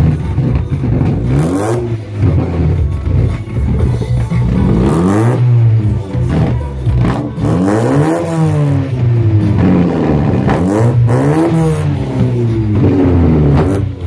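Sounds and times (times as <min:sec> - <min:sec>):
car engine revving: 0:00.0 - 0:14.0
exhaust popping: 0:00.0 - 0:14.0.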